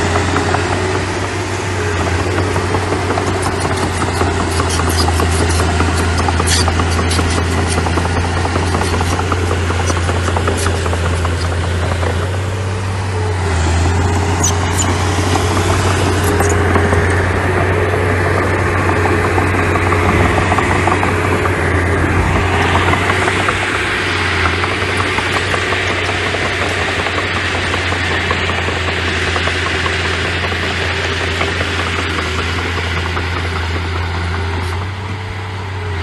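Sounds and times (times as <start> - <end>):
earthmoving machine engine humming: 0.0 - 36.0
sharp clicks and clanks: 2.1 - 12.6, 14.3 - 35.1.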